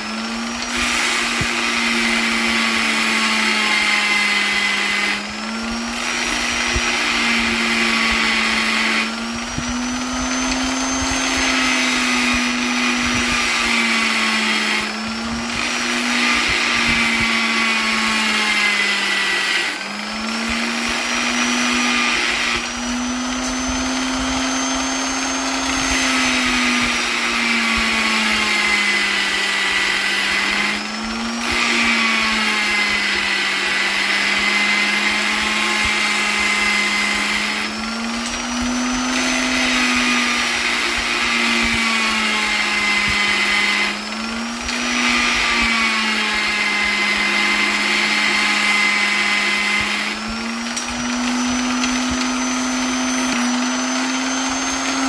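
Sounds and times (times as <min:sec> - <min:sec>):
electric polisher whining: 0:00.0 - 0:55.0.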